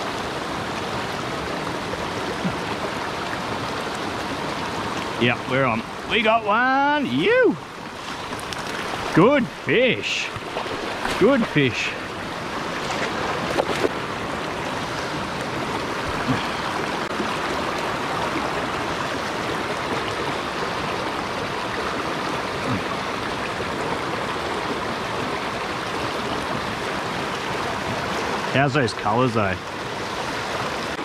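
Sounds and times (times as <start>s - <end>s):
mountain stream rushing over stones: 0.0s - 31.0s.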